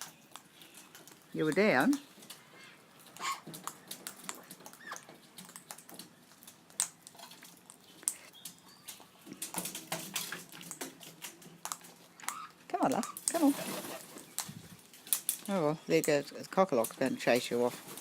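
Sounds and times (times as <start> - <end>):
beaks pecking seed: 0.0 - 18.0.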